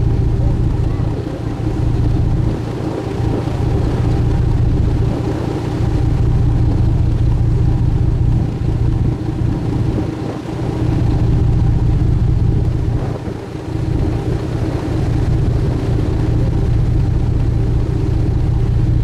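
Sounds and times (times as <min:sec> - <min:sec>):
ship engine drone: 0:00.0 - 0:19.0.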